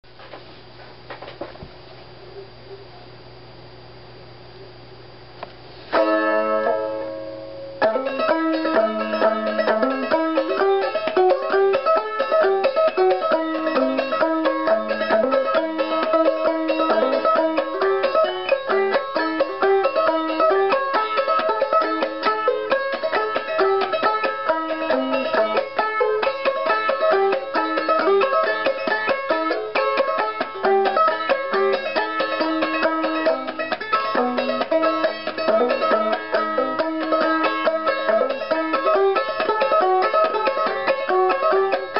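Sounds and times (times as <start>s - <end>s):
banjo ukulele chord strummed: 5.9s - 41.9s
plucked banjo ukulele tune: 5.9s - 41.9s.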